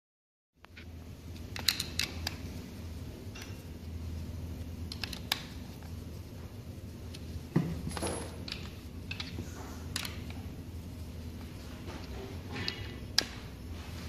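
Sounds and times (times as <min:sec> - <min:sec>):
low steady hum: 0:00.6 - 0:14.0.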